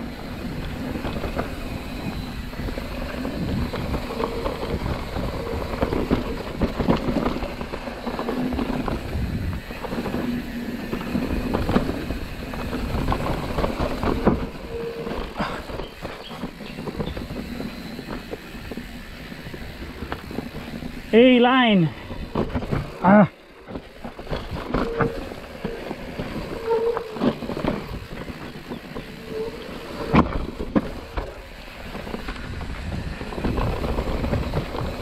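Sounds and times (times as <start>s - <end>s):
bike rattling and knocking: 0.0s - 35.0s
bike tyres rumbling over dirt: 0.0s - 35.0s.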